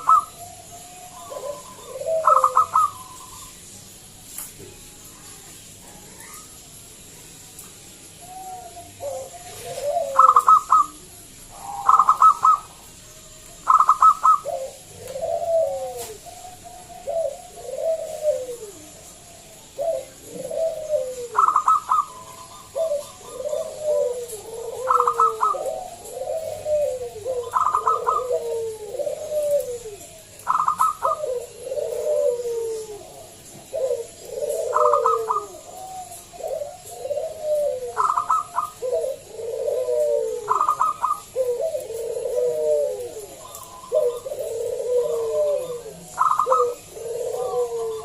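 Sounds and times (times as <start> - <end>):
dove singing high notes and coos: 0.0 - 48.0.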